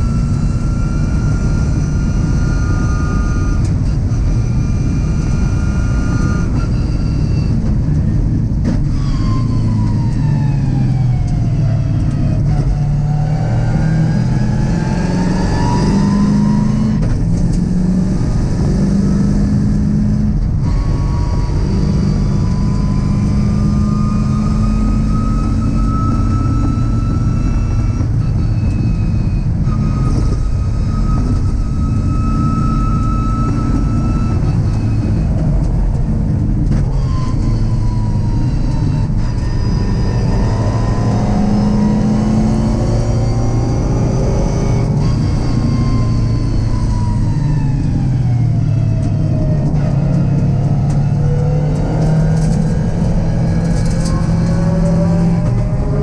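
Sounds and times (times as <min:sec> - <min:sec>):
car engine revving: 0:00.0 - 0:56.0
road and wind noise: 0:00.0 - 0:56.0.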